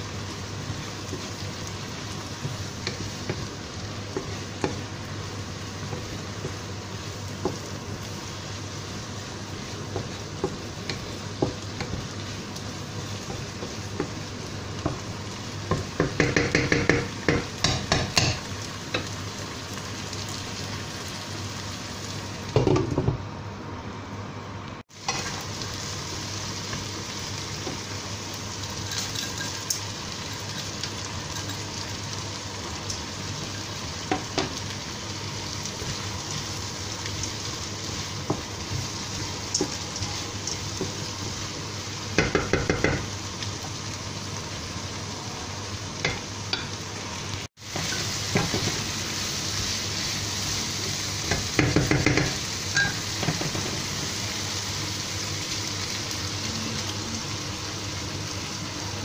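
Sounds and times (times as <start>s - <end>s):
onion sizzling in a pan: 0.0s - 59.0s.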